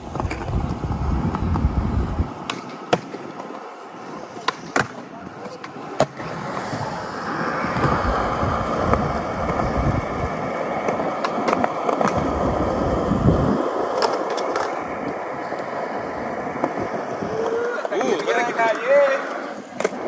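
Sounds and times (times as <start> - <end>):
skateboard clacks: 0.0 - 20.0
skateboard wheels rolling on concrete: 0.0 - 20.0.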